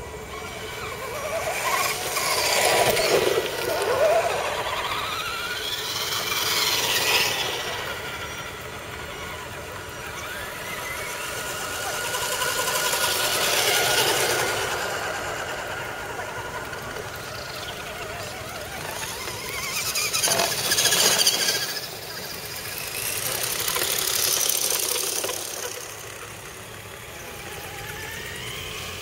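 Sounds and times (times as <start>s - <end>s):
rc truck electric motors whining: 0.0s - 29.0s.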